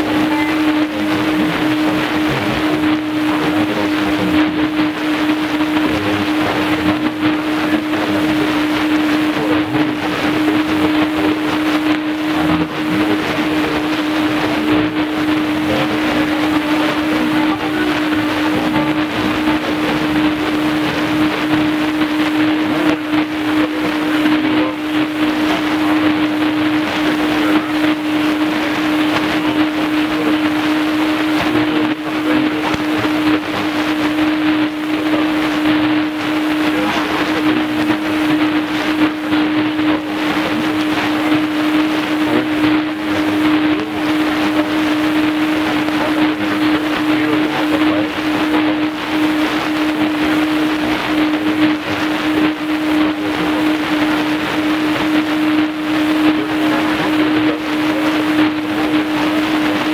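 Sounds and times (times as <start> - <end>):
radio static hissing: 0.0 - 59.9.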